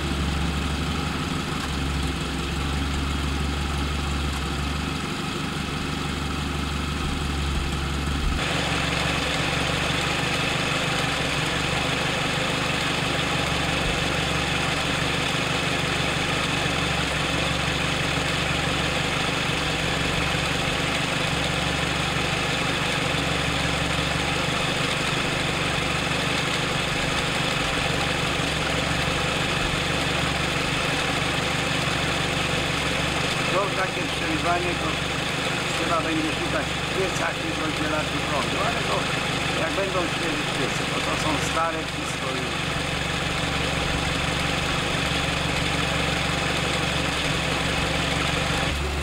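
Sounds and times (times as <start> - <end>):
engine running steadily: 0.0 - 49.0.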